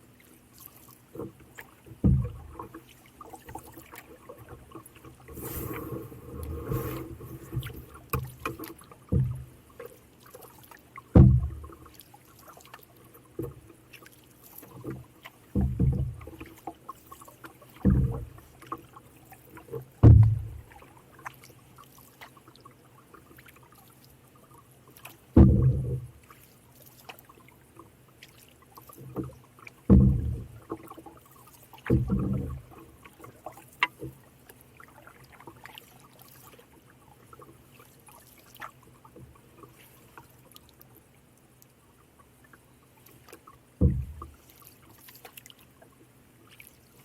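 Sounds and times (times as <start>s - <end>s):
faint water drips: 0.0s - 5.4s, 7.2s - 47.0s
paddle strokes in water: 0.0s - 47.0s.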